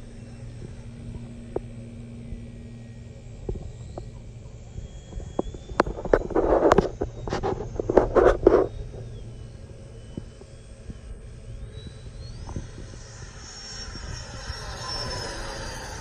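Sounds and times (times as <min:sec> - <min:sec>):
model jet motor whine: 0:00.0 - 0:16.0.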